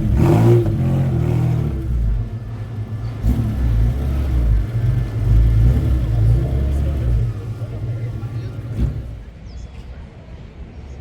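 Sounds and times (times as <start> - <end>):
car engine running: 0.0 - 9.3.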